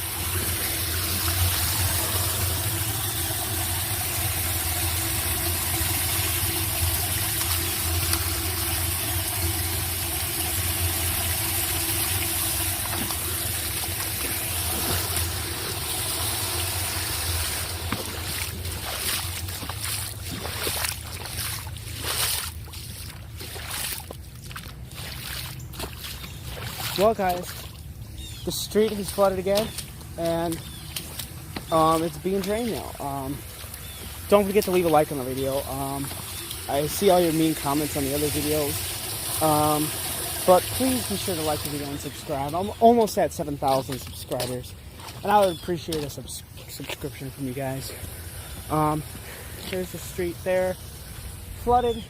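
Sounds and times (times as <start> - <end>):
water rushing into storm drain: 0.0 - 52.0.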